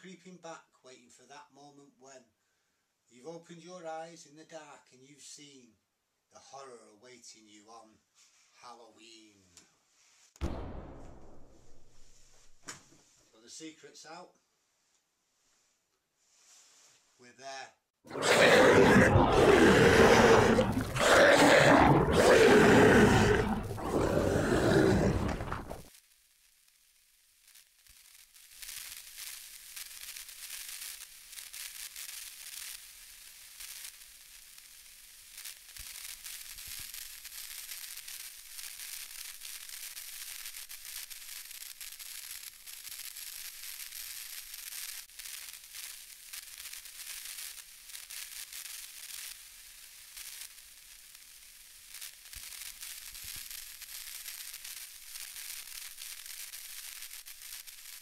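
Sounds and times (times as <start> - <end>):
crackling static hiss: 11.5 - 58.0.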